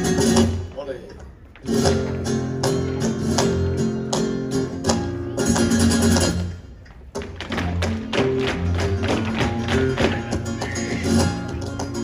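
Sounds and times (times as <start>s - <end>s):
flamenco guitar playing: 0.0s - 12.0s.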